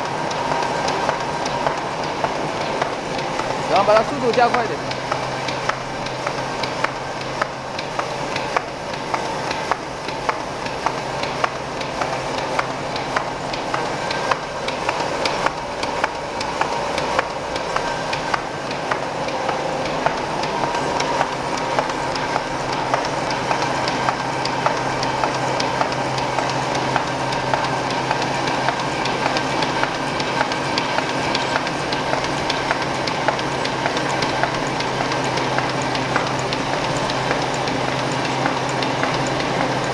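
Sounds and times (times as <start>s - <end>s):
machine clatter with rapid clicks: 0.0s - 39.9s
steady machine hum: 0.0s - 39.9s.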